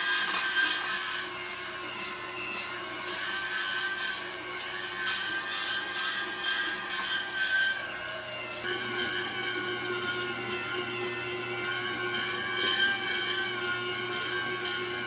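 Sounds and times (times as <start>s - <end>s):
meat grinder motor whining: 0.0s - 15.0s.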